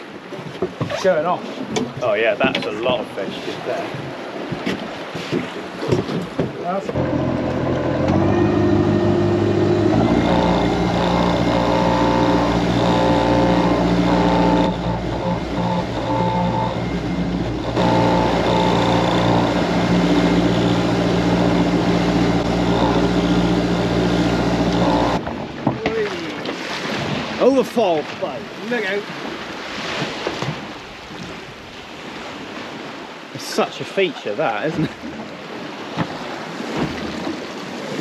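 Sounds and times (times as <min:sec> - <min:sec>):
boat engine running: 0:00.4 - 0:31.7.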